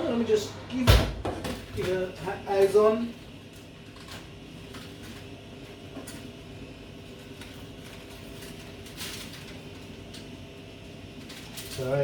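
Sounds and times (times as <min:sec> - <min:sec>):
kitchen appliance fan humming: 0:00.0 - 0:12.0.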